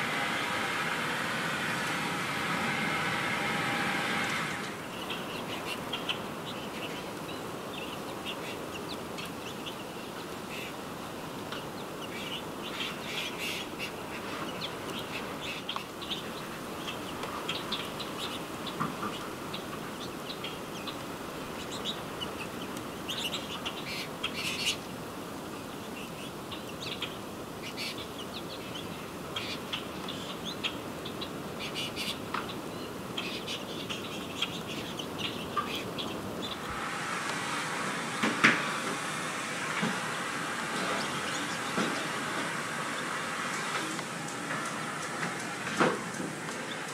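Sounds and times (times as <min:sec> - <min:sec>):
steady background hiss: 0:00.0 - 0:46.9
small birds chirping: 0:04.2 - 0:36.8, 0:39.3 - 0:46.9.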